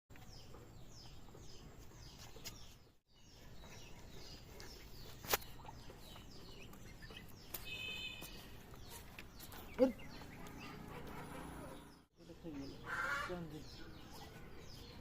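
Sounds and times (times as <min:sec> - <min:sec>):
bird chirping: 0:00.1 - 0:15.0.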